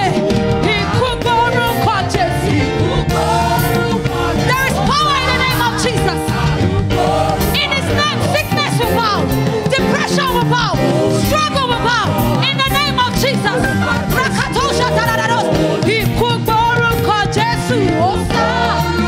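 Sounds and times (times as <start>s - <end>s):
band with bass and drums: 0.0s - 19.0s
group of singers: 0.0s - 19.0s.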